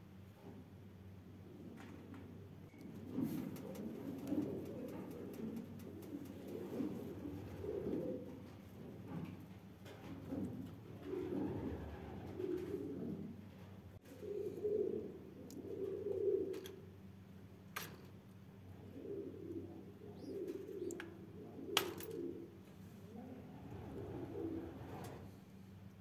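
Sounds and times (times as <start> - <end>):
pigeons cooing: 2.8 - 17.5, 18.4 - 25.5.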